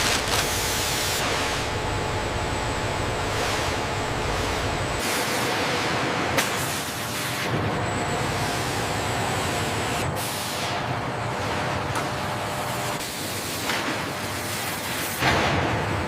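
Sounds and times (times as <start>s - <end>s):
faint industrial hum: 0.0s - 16.0s.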